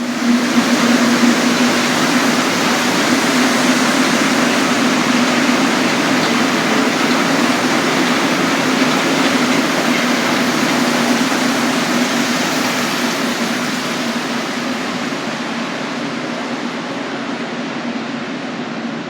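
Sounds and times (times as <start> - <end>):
metro train rushing past: 0.0 - 19.0.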